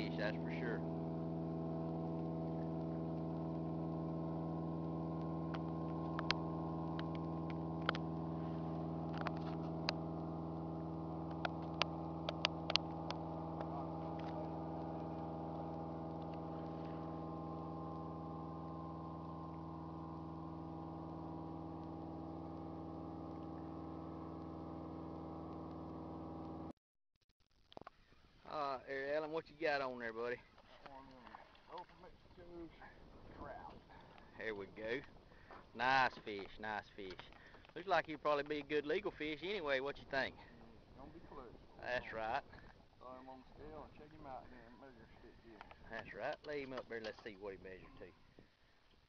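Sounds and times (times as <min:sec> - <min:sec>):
boat engine drone: 0:00.0 - 0:26.8, 0:29.8 - 0:47.5.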